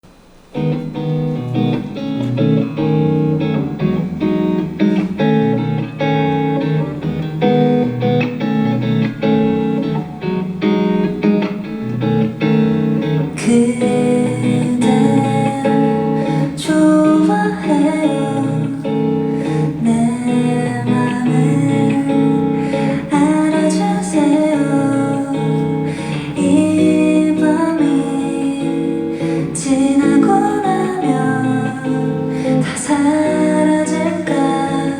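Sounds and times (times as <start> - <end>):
guitar playing live: 0.1 - 34.9.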